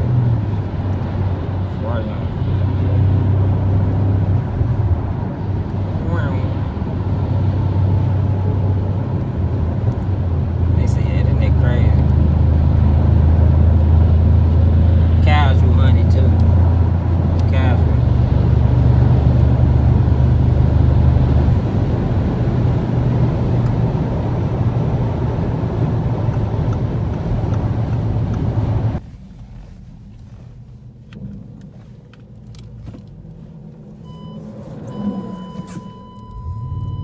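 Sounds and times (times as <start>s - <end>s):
car cabin road and engine drone: 0.0s - 37.0s.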